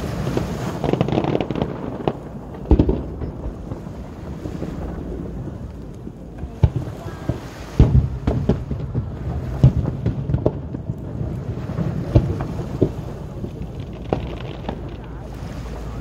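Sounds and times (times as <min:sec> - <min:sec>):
fireworks booming: 0:00.0 - 0:16.0
constant low rumble: 0:01.3 - 0:16.0.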